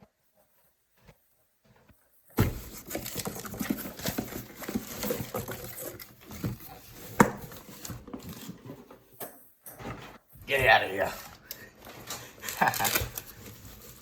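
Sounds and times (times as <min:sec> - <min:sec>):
rummaging knocks and rustles: 0:00.1 - 0:14.0.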